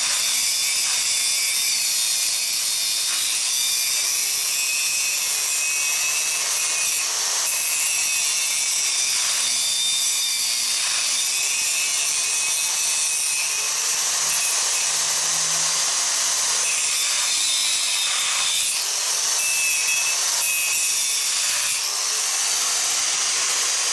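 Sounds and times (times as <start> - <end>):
angle grinder cutting metal: 0.0 - 23.9
grinder motor high whine: 0.0 - 23.9.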